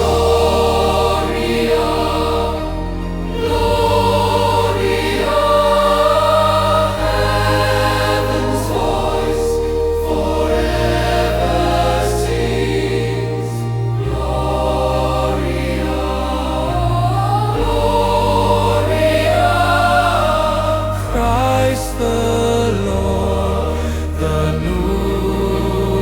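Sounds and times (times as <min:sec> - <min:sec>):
choir singing sustained vowels: 0:00.0 - 0:26.0
low bass notes: 0:00.0 - 0:26.0.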